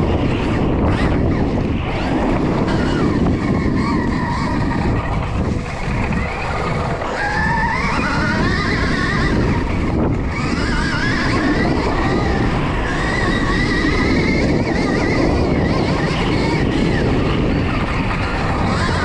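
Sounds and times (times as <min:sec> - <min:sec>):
electric motor whine: 0:00.0 - 0:19.0
steady rushing noise: 0:00.0 - 0:19.0.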